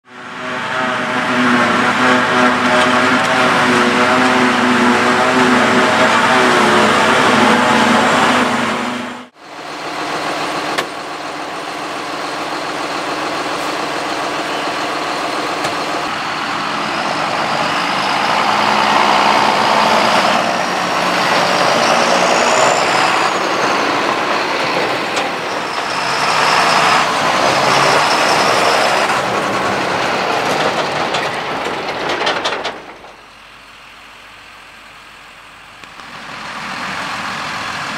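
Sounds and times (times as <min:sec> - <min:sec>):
high whine: 0:00.0 - 0:30.8
diesel engines running: 0:00.0 - 0:37.9.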